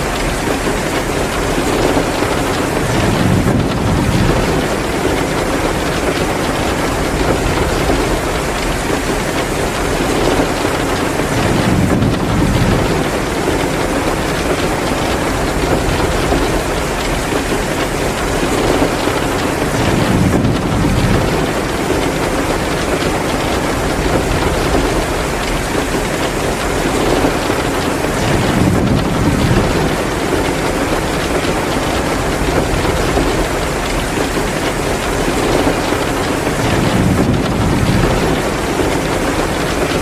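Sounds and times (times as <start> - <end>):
heavy rain pouring: 0.0 - 40.0
wood fire crackling: 0.0 - 40.0.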